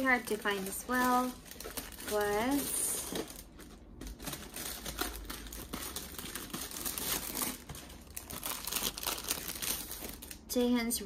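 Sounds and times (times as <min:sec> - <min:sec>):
packaging crinkling and rustling: 0:00.0 - 0:10.5.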